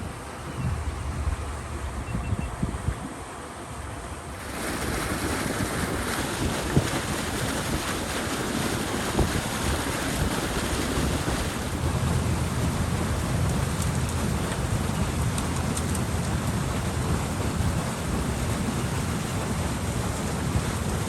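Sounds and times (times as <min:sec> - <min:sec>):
wind buffeting microphone: 0:00.0 - 0:21.0
water rushing through a dam breach: 0:02.8 - 0:21.0.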